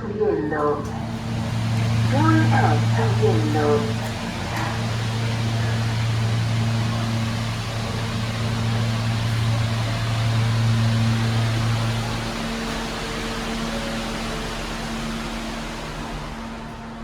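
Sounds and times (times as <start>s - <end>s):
elevator hum and rushing: 0.0s - 17.0s.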